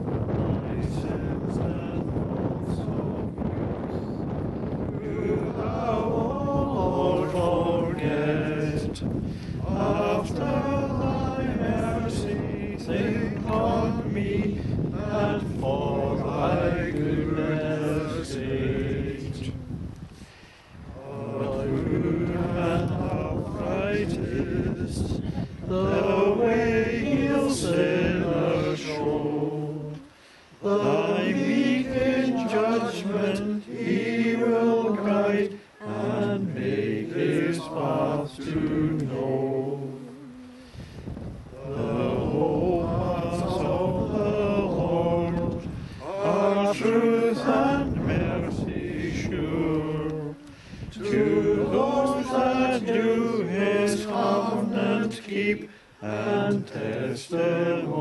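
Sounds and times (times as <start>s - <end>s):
congregation singing a psalm: 0.0s - 20.0s, 20.8s - 58.0s.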